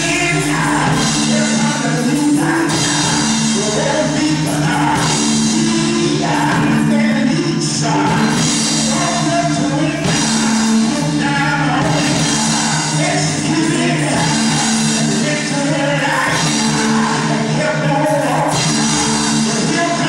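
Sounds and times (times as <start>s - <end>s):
instrumental held chords: 0.0s - 20.0s
man singing into microphone: 0.0s - 20.0s.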